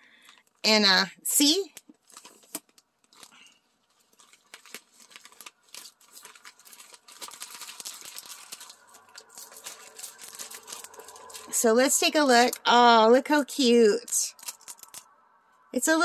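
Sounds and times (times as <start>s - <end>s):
plastic bag crinkling and rustling: 1.5s - 15.1s.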